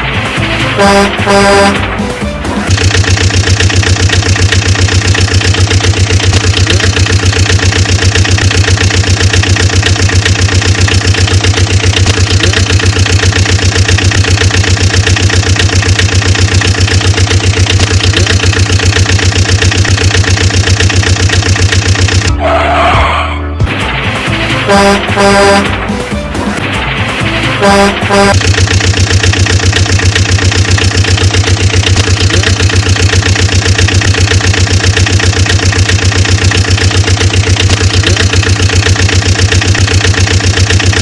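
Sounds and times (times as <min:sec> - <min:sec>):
truck engine idling: 0:00.0 - 0:22.8, 0:23.7 - 0:41.0.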